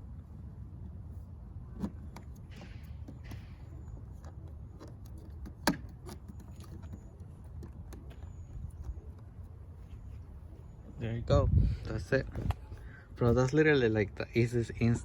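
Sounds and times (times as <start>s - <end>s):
steady low rumble: 0.0s - 4.6s, 7.3s - 15.0s.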